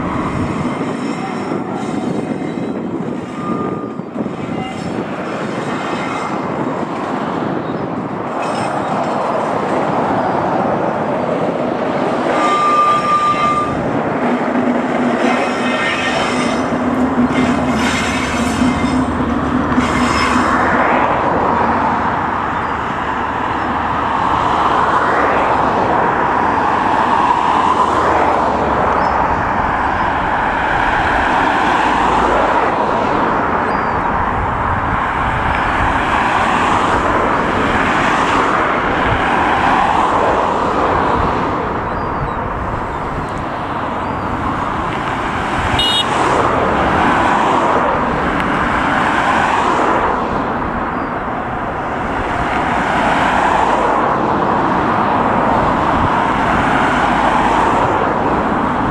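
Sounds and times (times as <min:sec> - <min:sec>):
diesel locomotive engine: 0:00.0 - 0:58.9
road traffic noise: 0:00.0 - 0:58.9.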